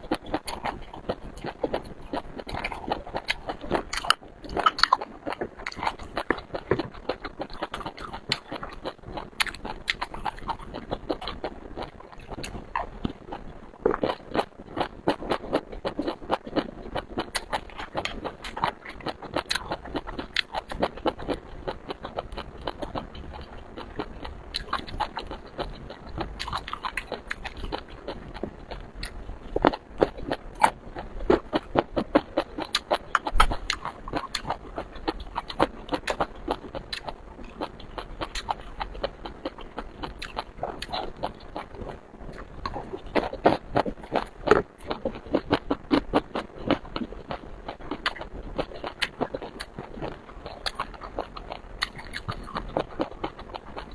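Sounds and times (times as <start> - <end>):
wet chewing and smacking: 0.0 - 53.9.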